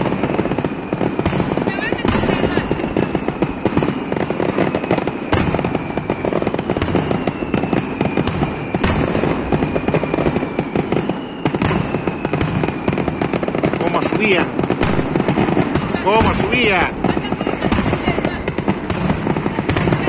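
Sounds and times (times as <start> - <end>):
fireworks crackling and banging: 0.0 - 20.0
loud firework bangs: 0.0 - 20.0.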